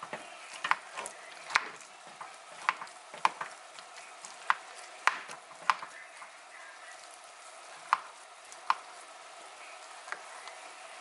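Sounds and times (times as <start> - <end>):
pan sizzling: 0.0 - 11.0.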